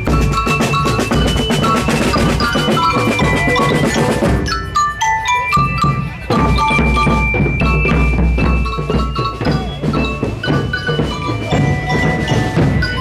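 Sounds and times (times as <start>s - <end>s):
drum beat: 0.0s - 13.0s
ringing bell notes: 0.0s - 13.0s.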